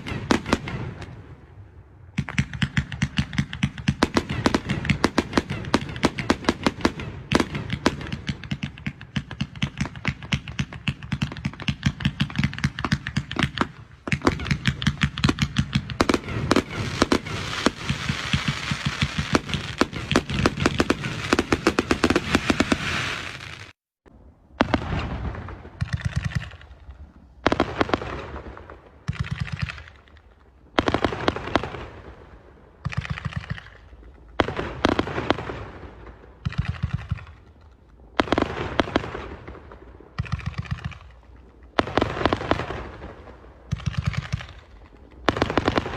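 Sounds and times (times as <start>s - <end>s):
fireworks crackling bangs: 0.0s - 23.8s, 24.5s - 45.9s.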